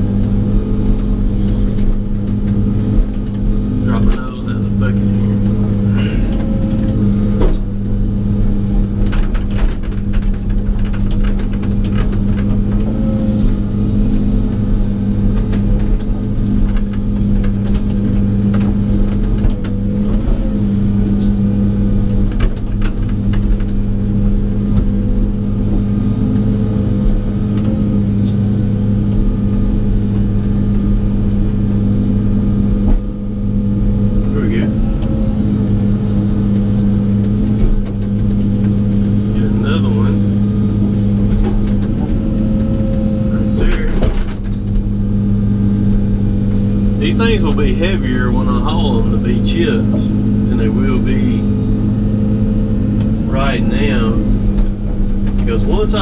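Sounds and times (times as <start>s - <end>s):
excavator diesel engine running: 0.0s - 56.0s
knocks and clunks: 0.0s - 56.0s.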